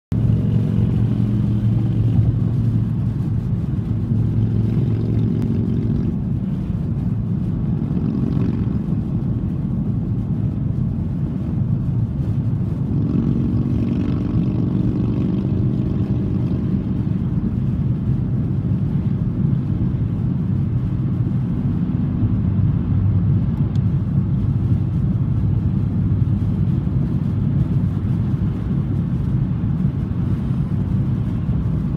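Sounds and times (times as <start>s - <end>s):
car cabin engine and tyre rumble: 0.1s - 31.9s.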